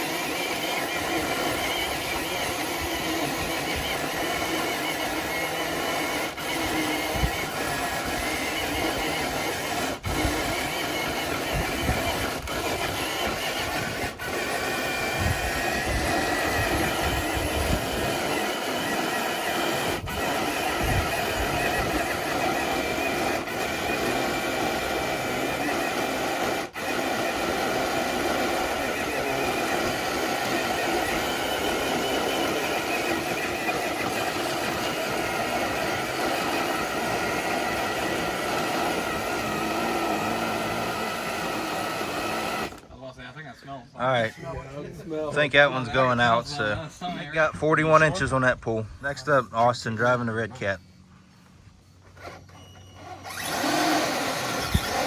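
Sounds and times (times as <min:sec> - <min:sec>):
electric motor whining: 0:00.0 - 0:42.9, 0:49.2 - 0:55.0.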